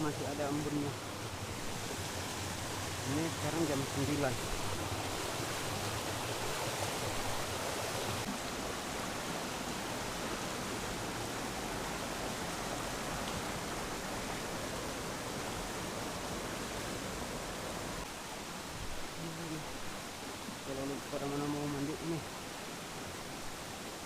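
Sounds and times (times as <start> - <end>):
river water rushing over rocks: 0.0 - 24.0.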